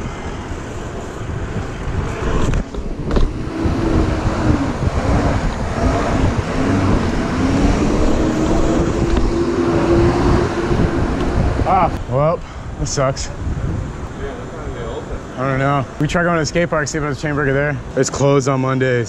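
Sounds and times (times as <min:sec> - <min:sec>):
vehicle engine humming: 0:00.0 - 0:18.0
city street traffic: 0:00.0 - 0:19.0.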